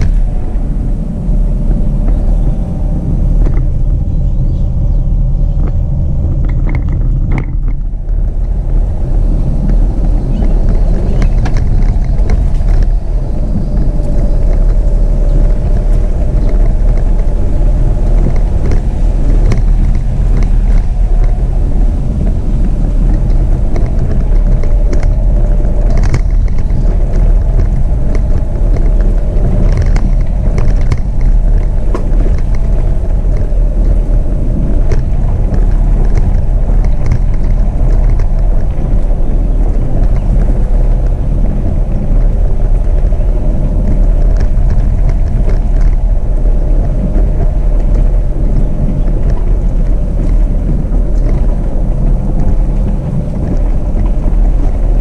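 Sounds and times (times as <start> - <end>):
tyres and wind rumble: 0.0 - 55.0
knocks and rattles: 5.6 - 55.0.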